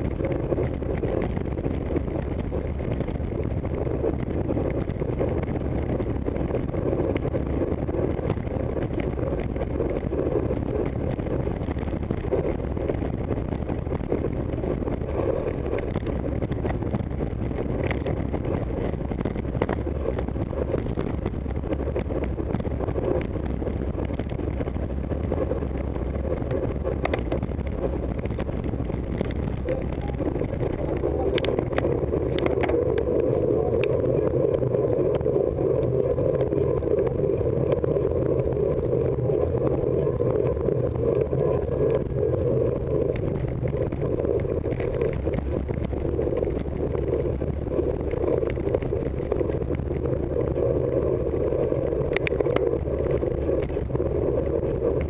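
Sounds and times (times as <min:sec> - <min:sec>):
road noise: 0:00.0 - 0:54.5.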